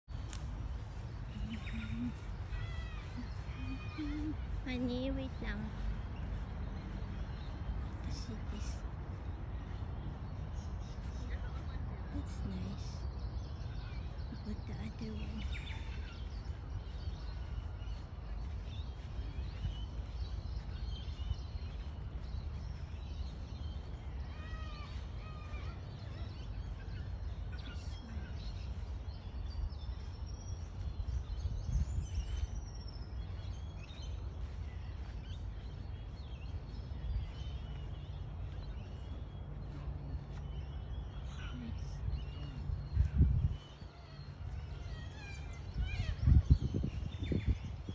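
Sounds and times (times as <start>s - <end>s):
birds chirping: 0.0s - 47.9s
steady low rumble: 0.1s - 47.9s.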